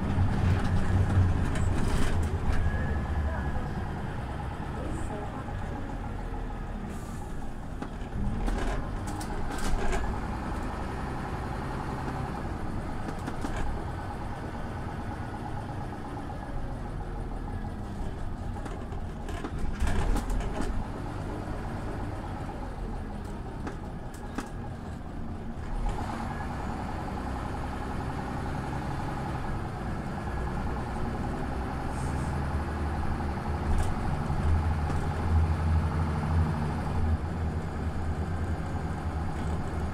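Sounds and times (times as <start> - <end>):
bus engine running: 0.0 - 39.9
road noise: 0.0 - 39.9.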